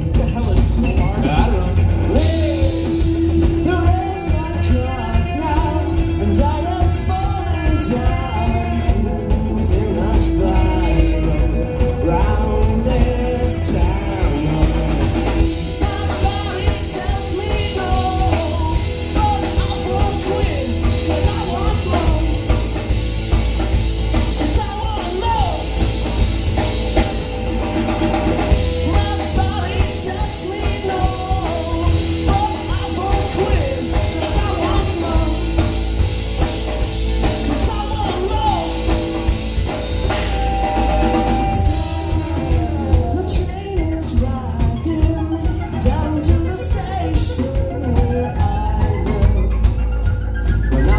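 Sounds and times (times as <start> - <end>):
man singing: 0.0 - 23.0, 24.1 - 26.0, 27.9 - 36.6, 37.2 - 49.9
drum kit: 0.0 - 50.9
electric bass: 0.0 - 50.9
electric guitar: 0.0 - 50.9.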